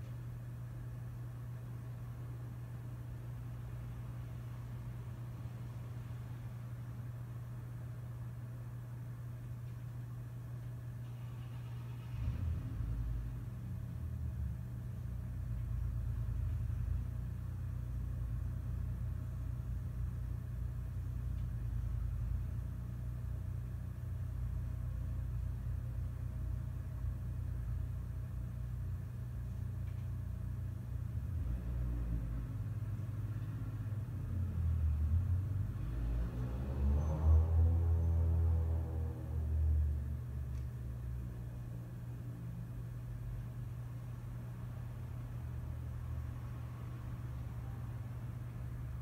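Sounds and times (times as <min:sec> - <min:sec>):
low rumble with hum: 0:00.0 - 0:49.0.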